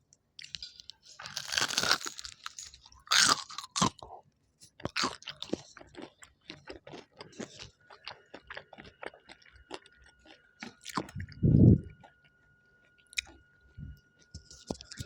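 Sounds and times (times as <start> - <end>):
chewing food: 0.4 - 15.0.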